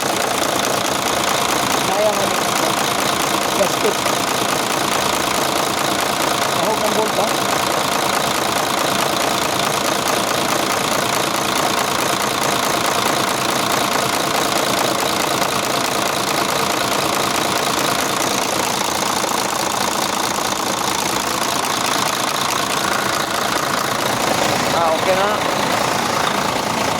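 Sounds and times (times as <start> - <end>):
diesel truck engine idling: 0.0 - 26.9.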